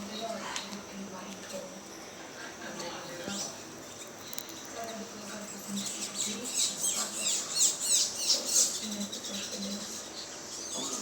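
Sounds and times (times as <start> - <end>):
flock of small birds chirping: 1.9 - 11.0.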